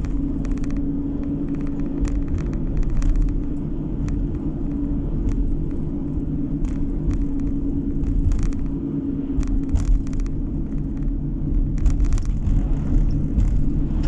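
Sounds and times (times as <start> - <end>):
car road and engine rumble: 0.0 - 14.0
light ticks and rattles: 0.0 - 14.0.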